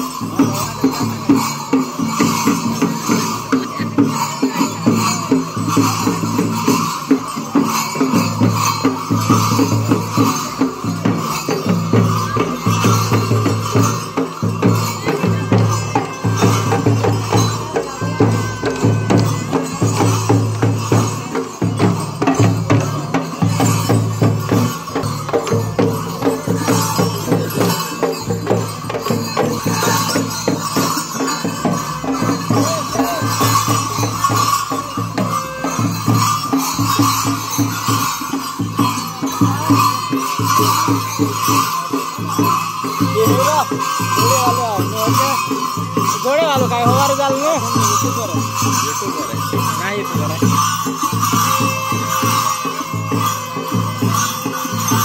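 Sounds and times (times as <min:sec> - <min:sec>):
jingling bell: 0:00.0 - 0:55.0
rattle percussion: 0:00.0 - 0:55.0
steady drum beat: 0:00.0 - 0:55.0.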